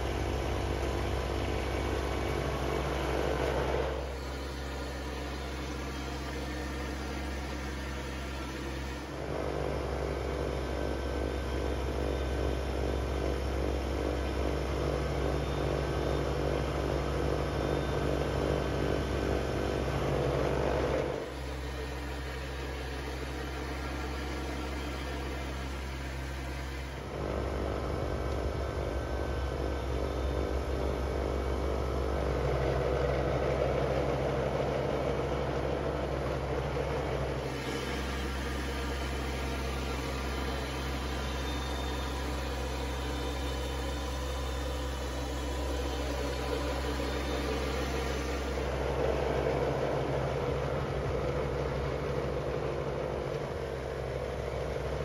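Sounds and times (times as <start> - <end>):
snowblower working: 0.0 - 55.0
tractor diesel engine running: 0.0 - 55.0.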